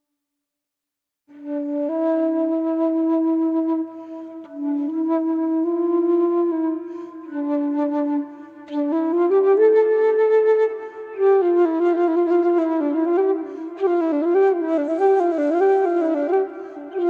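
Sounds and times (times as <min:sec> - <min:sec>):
solo flute melody: 0:01.3 - 0:17.0.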